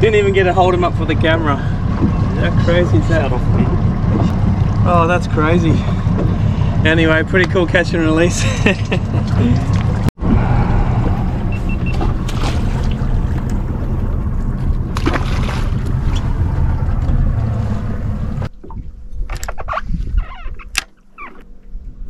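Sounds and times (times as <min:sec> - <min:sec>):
boat outboard rumble: 0:00.0 - 0:22.0.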